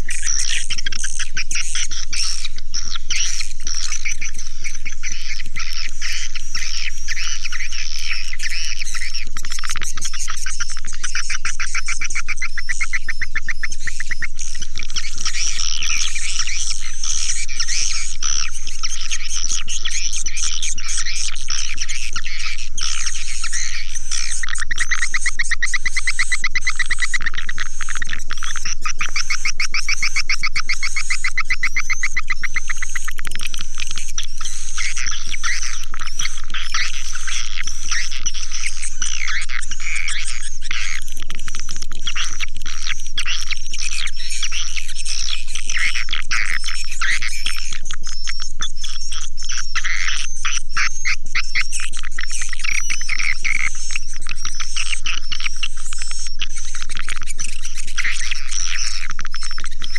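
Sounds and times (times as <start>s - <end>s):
rapid repeated short chirps: 0.0s - 59.9s
swiftlets twittering and chirping: 0.0s - 59.9s.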